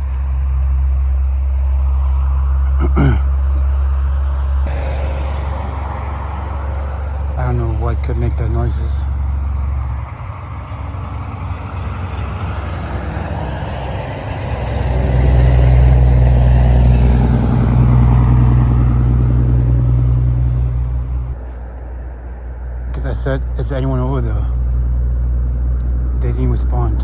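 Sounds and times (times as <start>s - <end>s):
vehicle passing with engine hum: 0.0s - 27.0s.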